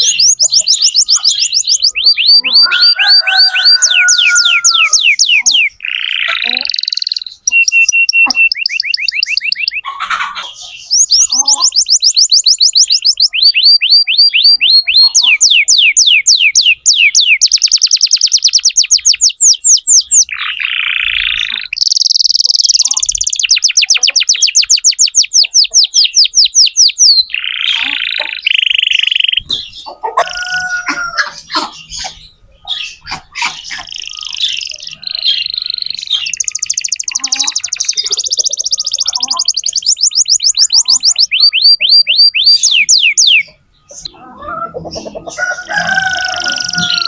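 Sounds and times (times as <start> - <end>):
canary singing trills: 0.0 - 47.0
harsh buzzy bird phrases: 0.0 - 47.0.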